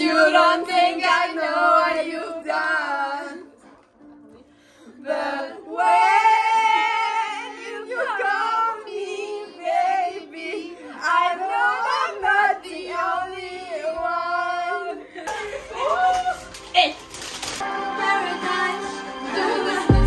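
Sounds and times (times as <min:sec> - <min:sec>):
girls singing theatrically: 0:00.0 - 0:03.7, 0:04.8 - 0:17.0, 0:17.7 - 0:20.0.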